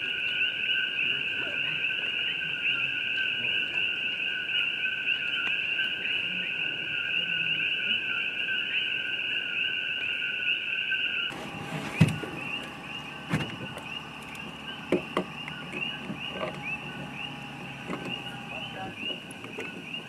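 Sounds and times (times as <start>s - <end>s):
chorus of frogs chirping: 0.0s - 20.0s.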